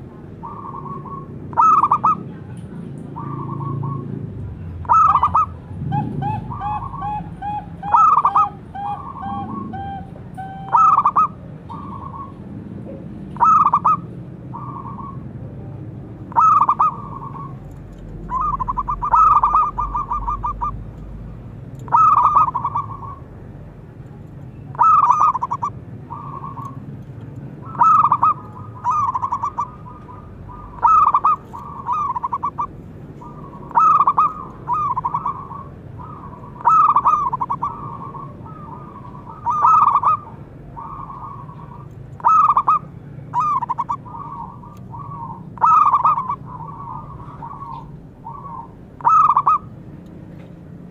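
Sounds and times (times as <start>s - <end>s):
dove cooing: 0.0s - 2.3s, 3.2s - 4.1s, 4.8s - 12.4s, 13.3s - 15.2s, 16.3s - 20.8s, 21.8s - 23.3s, 24.7s - 26.9s, 27.6s - 49.7s.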